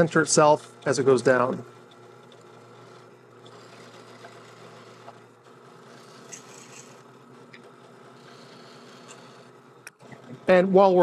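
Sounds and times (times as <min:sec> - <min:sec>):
drill press motor running: 0:00.0 - 0:11.0
drill bit drilling acrylic: 0:00.4 - 0:09.9.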